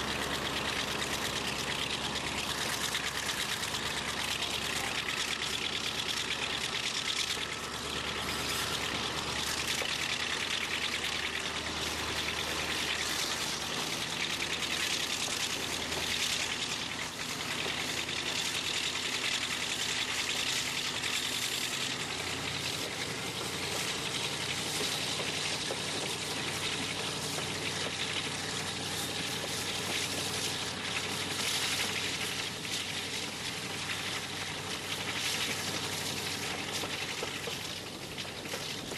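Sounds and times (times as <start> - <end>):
faint locomotive engine: 0.0 - 38.9
train rolling on track: 0.0 - 38.9.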